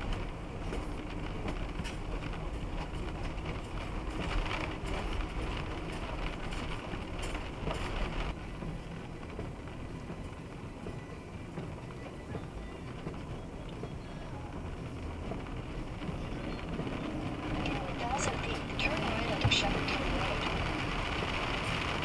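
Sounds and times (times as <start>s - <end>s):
truck engine and tyres rumbling: 0.0s - 22.0s.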